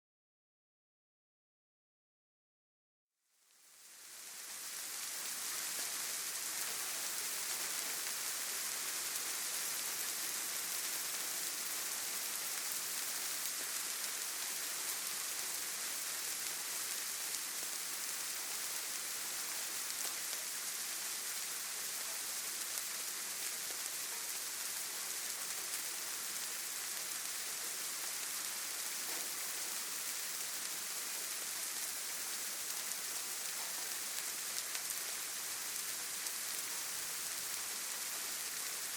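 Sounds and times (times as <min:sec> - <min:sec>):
steady rain falling: 0:03.4 - 0:38.9.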